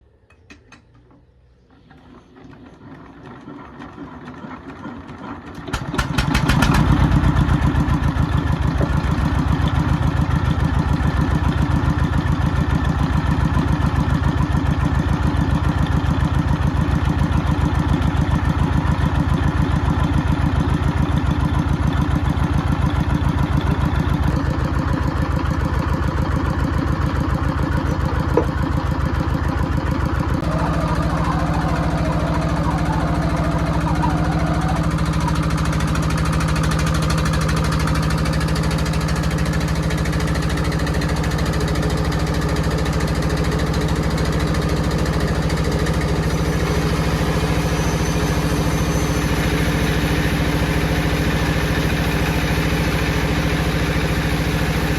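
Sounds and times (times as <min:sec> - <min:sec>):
engine starting and running: 0:00.0 - 0:54.9.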